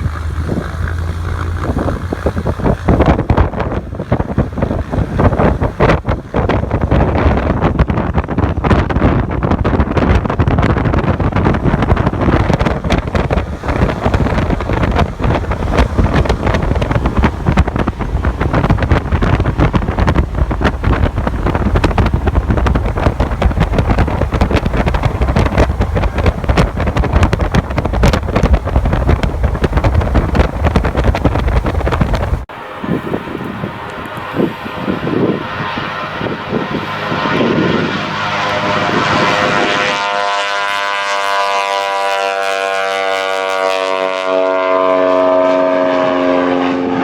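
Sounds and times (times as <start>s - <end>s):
gusty wind buffeting microphone: 0.0s - 47.0s.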